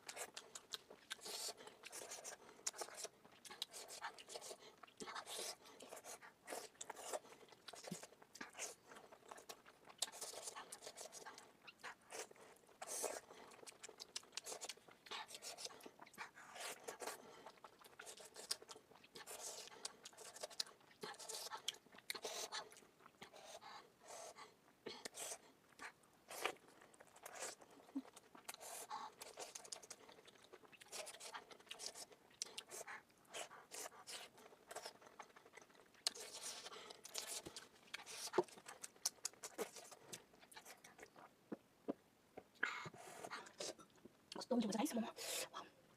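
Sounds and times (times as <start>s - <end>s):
chewing and mouth smacks: 0.0s - 23.8s, 24.9s - 44.4s.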